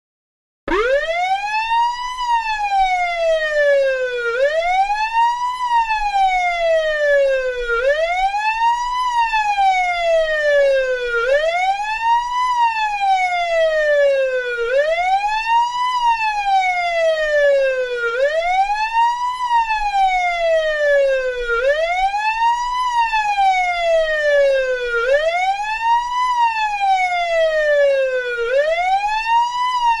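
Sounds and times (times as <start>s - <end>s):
police siren wailing: 0.7s - 30.0s.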